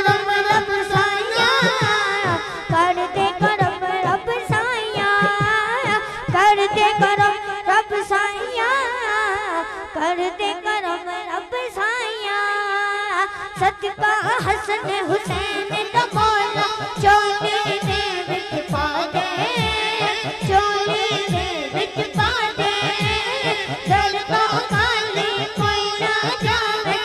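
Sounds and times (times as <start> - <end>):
boy singing into microphone: 0.0 - 27.0.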